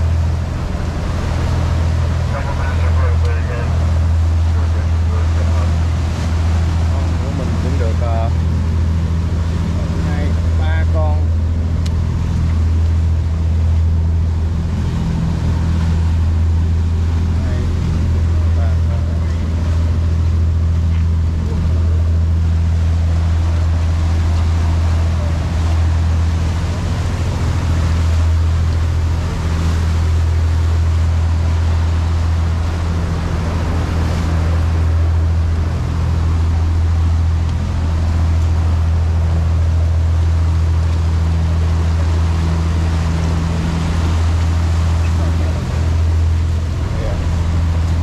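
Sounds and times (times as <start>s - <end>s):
boat engine droning: 0.0s - 48.0s
water rushing: 0.0s - 48.0s
wind: 0.0s - 48.0s.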